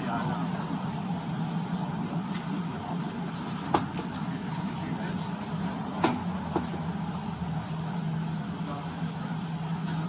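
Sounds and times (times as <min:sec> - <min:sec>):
vehicle idling hum: 0:00.0 - 0:10.0.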